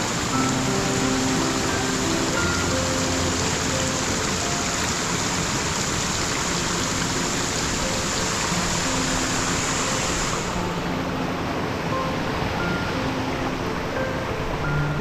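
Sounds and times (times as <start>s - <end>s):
faint music: 0.0s - 5.7s, 6.5s - 15.0s
waterfall rushing: 0.0s - 15.0s.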